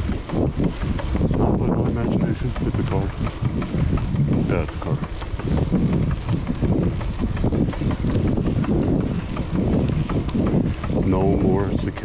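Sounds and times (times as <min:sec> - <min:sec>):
road noise: 0:00.0 - 0:12.0
wind buffeting on microphone: 0:00.0 - 0:12.0.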